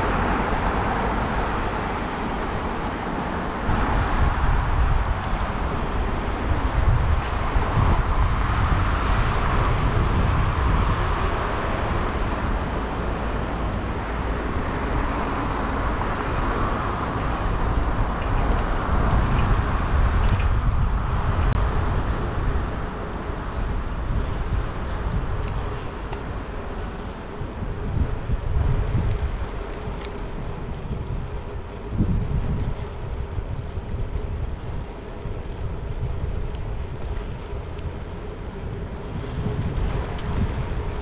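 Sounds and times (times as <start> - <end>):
passing cars: 0.0 - 41.0
wind rumble on microphone: 0.0 - 41.0.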